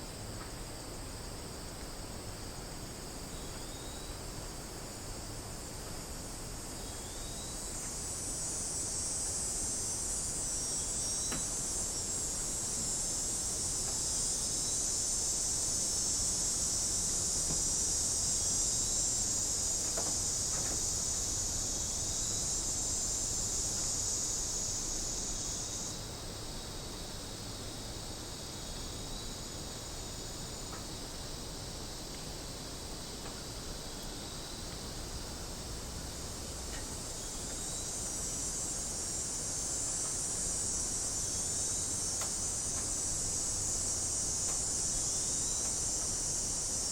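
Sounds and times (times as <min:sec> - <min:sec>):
cicadas buzzing: 0:00.0 - 0:46.9.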